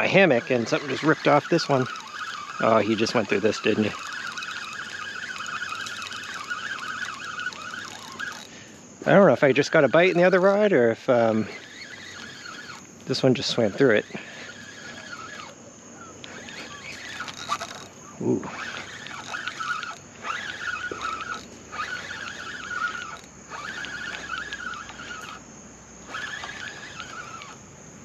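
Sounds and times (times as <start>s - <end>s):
fishing reel clicker ticking: 0.0s - 25.4s, 26.0s - 27.6s.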